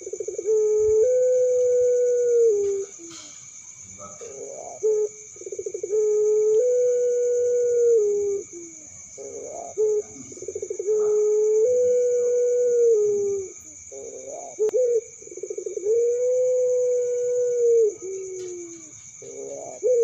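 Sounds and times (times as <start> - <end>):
crickets trilling: 0.0 - 20.0
dove cooing: 0.0 - 20.0.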